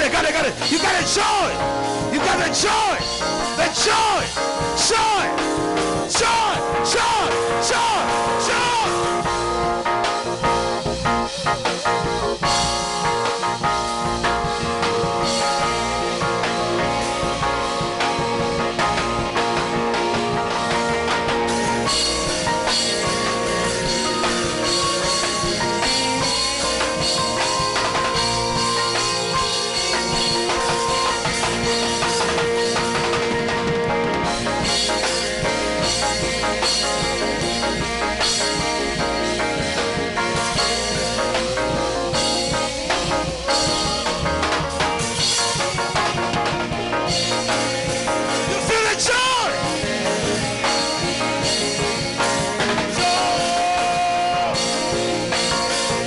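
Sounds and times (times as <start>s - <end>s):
worship band music: 0.0s - 56.0s.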